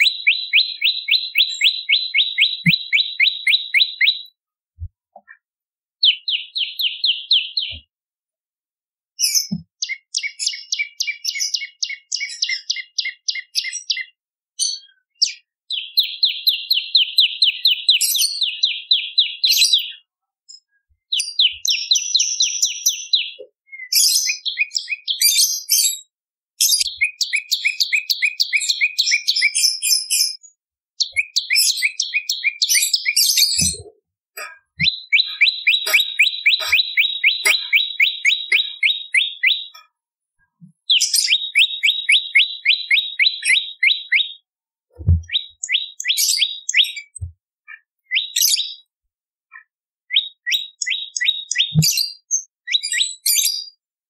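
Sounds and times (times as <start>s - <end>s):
songbird chirping rapidly: 0.0s - 4.4s, 6.0s - 7.8s, 9.2s - 14.2s, 14.9s - 20.1s, 21.1s - 25.8s, 26.6s - 39.8s, 40.8s - 48.9s, 50.1s - 53.0s.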